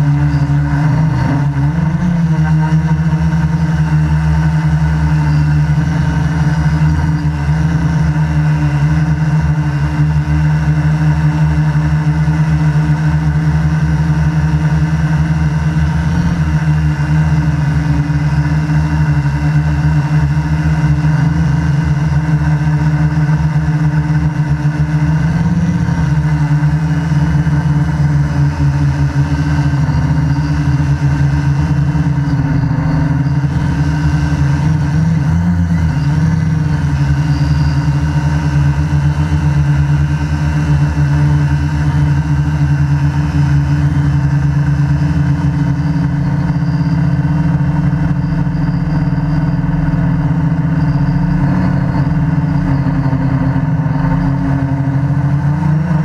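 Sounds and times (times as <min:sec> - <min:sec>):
drone motors humming: 0:00.0 - 0:56.0.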